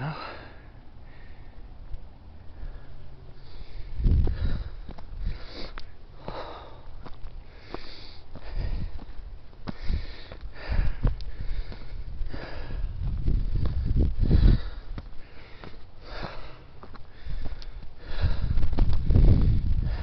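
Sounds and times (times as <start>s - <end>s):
person breathing hard and sniffing: 2.6s - 20.0s.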